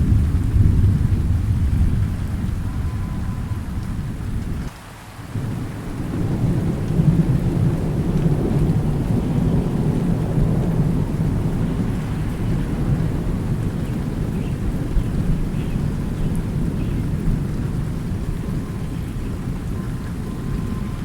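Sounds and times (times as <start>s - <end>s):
thunder rumbling: 0.0s - 4.7s, 5.3s - 21.0s
steady rain: 0.0s - 21.0s.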